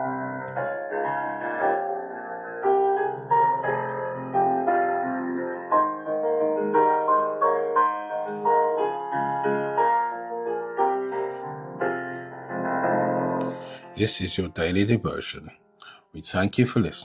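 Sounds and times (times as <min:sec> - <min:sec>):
solo piano music: 0:00.0 - 0:15.7.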